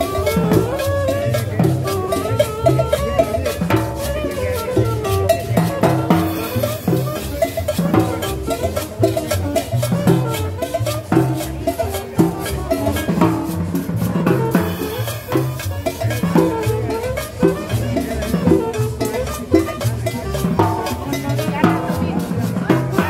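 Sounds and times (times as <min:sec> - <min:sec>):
drum kit beat: 0:00.0 - 0:23.0
saxophone melody: 0:00.0 - 0:23.0
upright bass walking line: 0:00.0 - 0:23.0.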